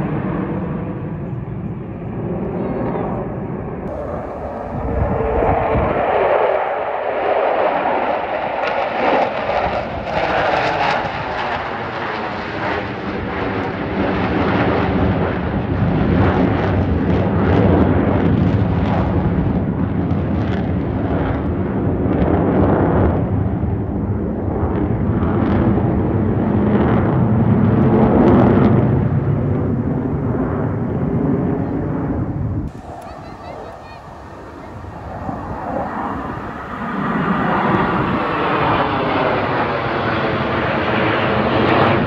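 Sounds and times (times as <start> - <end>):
fighter jets roaring overhead: 0.0 - 42.0.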